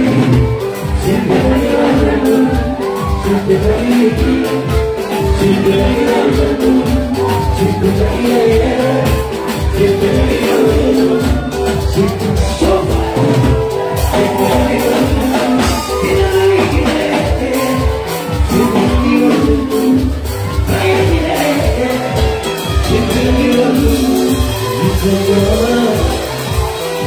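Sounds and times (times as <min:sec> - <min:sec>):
live music with steady beat: 0:00.0 - 0:27.0
man singing into a microphone: 0:00.0 - 0:27.0.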